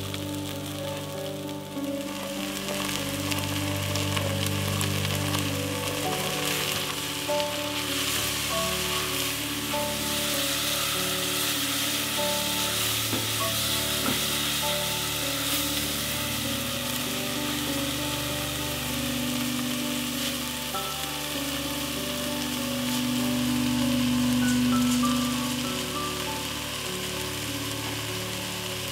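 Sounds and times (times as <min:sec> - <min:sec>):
vegetables sizzling in a pot: 0:00.0 - 0:28.9.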